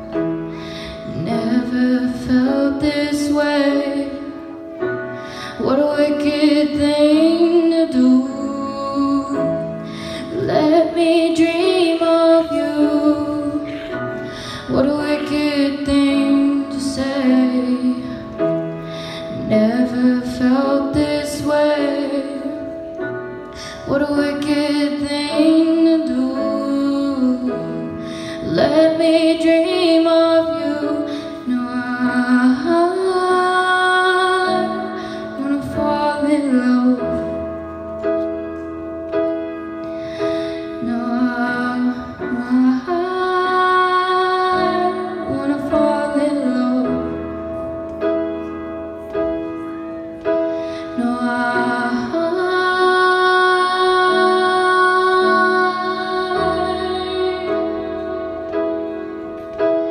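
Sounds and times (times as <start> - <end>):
upright piano: 0.0 - 59.9
woman singing into microphone: 0.7 - 4.4, 5.3 - 18.3, 19.0 - 22.8, 23.5 - 37.4, 40.3 - 47.4, 50.7 - 58.9.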